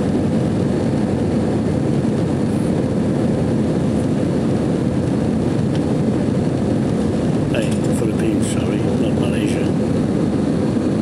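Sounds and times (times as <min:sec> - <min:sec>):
jet engines and airflow drone: 0:00.0 - 0:11.0.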